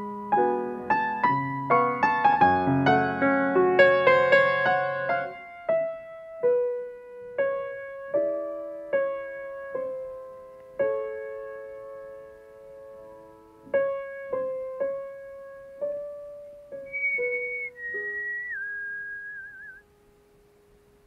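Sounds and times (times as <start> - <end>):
slow quiet piano music: 0.0 - 18.6.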